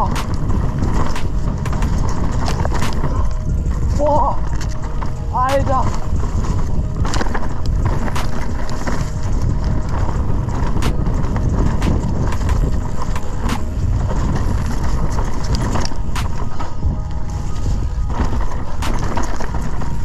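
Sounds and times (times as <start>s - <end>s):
bike knocking and rattling: 0.0s - 20.0s
knobby tyres rumbling on dirt: 0.0s - 20.0s
wind on microphone: 0.0s - 20.0s.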